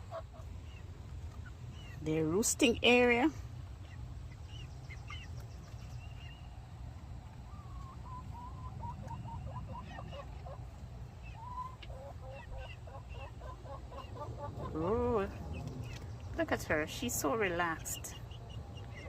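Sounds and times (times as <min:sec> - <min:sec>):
hens clucking: 0:00.0 - 0:19.0
steady low hum: 0:00.0 - 0:19.0.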